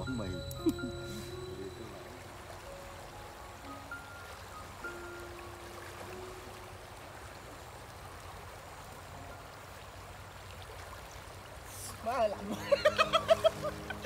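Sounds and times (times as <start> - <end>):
stream flowing over rocks: 0.0 - 14.0.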